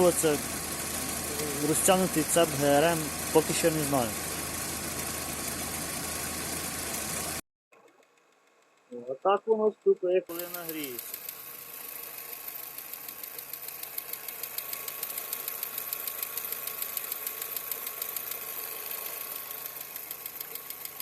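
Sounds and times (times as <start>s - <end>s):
rapid engine valve ticking: 0.0s - 7.2s, 9.5s - 21.0s
car engine idling: 0.0s - 7.4s, 9.9s - 21.0s.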